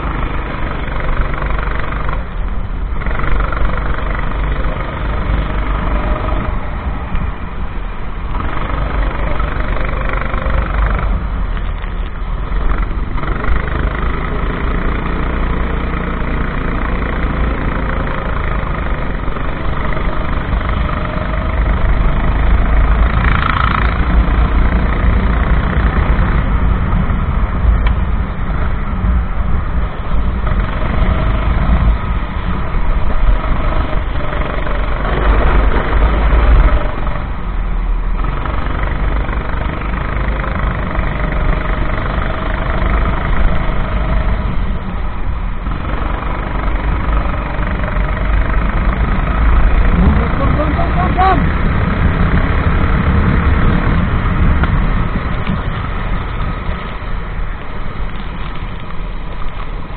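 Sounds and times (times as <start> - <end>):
kart engine rumbling: 0.0 - 59.9.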